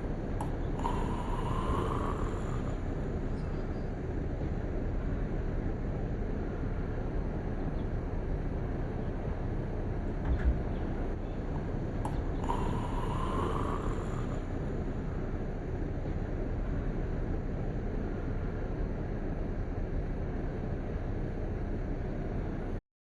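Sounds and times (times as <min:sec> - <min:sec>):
low rumble of outdoor background: 0:00.0 - 0:22.8.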